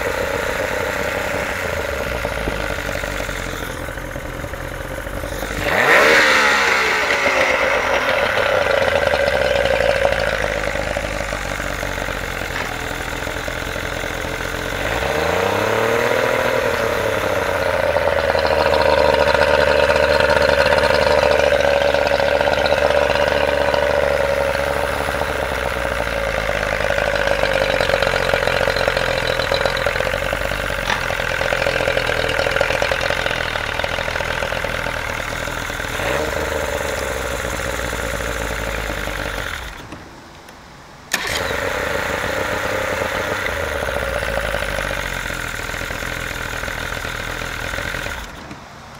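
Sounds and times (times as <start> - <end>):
outboard motor running: 0.0 - 40.0, 41.1 - 48.6.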